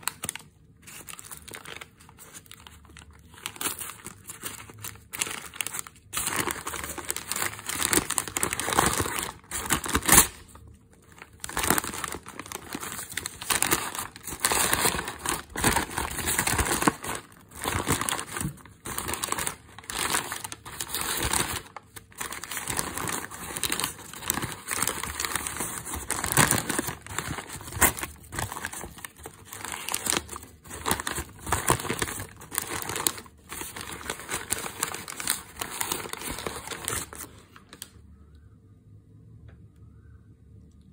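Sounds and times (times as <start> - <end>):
newspaper crinkling and rustling: 0.0 - 37.9.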